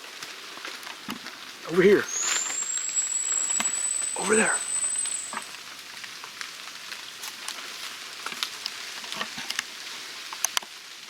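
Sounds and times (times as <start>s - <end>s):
rain falling on leaves: 0.0s - 5.1s, 6.9s - 11.0s.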